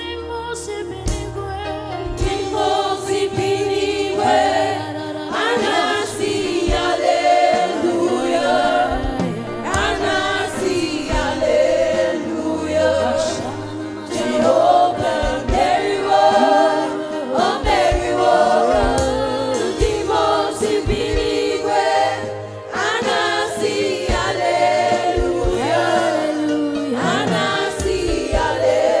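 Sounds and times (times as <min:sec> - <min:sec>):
instrumental backing: 0:00.0 - 0:29.0
choir singing: 0:02.1 - 0:29.0.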